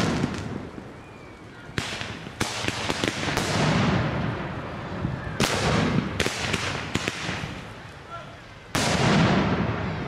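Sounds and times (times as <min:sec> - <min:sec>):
fireworks bangs and cracks: 0:00.0 - 0:01.0, 0:01.7 - 0:07.8, 0:08.7 - 0:10.0
rushing crackling bursts: 0:00.0 - 0:10.0.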